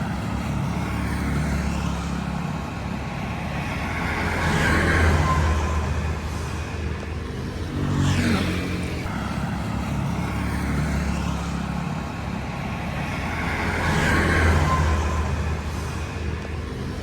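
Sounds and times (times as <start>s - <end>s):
traffic engines running: 0.0s - 17.0s
vehicles passing: 0.0s - 17.0s.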